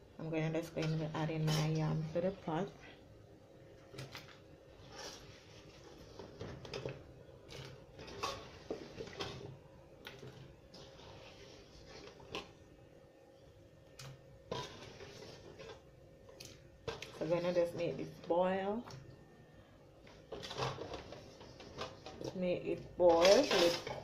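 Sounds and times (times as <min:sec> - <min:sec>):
faint steady hum: 0:00.0 - 0:23.1.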